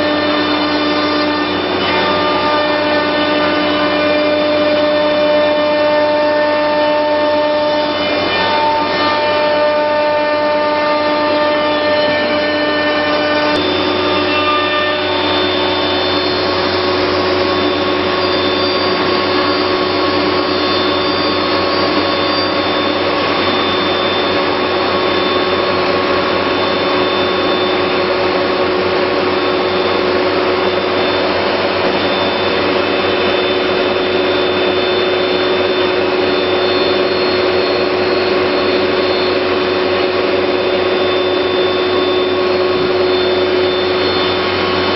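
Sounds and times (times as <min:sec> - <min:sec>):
cnc router running: 0:00.0 - 0:44.9.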